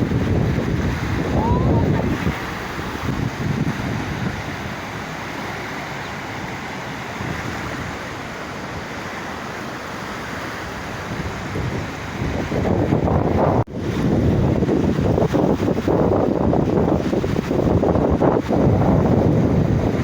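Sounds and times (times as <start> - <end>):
river water rushing: 0.0 - 20.0
wind gust on microphone: 0.0 - 20.0.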